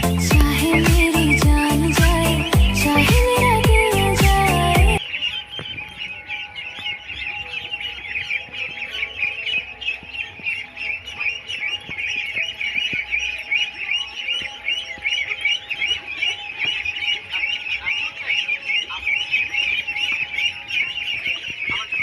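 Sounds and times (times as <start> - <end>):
ducklings peeping: 0.0 - 22.0.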